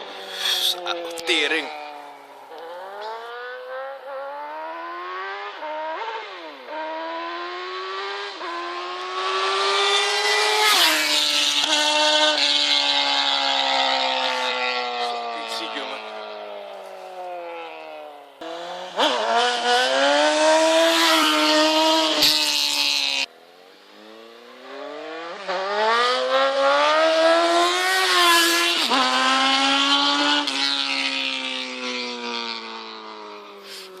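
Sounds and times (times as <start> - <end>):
motorcycle engine revving past: 0.0 - 34.0.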